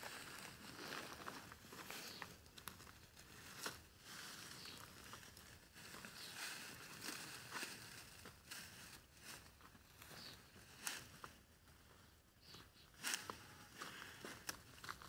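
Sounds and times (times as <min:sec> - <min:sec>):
dry sheaves rustling and crackling: 0:00.0 - 0:11.5, 0:12.5 - 0:15.0.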